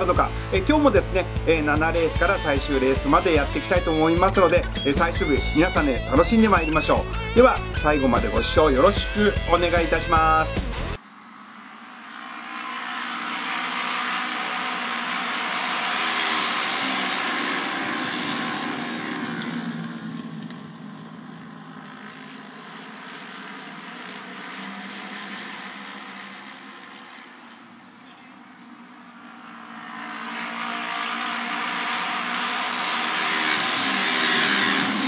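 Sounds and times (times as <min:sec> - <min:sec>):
racing motorcycles passing: 0:00.0 - 0:35.0.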